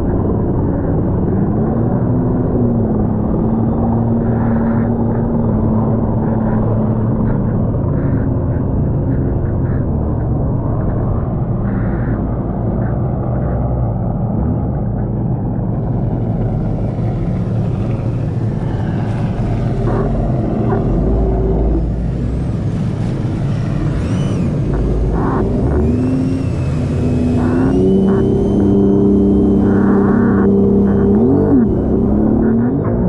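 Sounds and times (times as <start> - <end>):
jet ski engine: 0.0 - 33.0
wind over camera: 0.0 - 33.0.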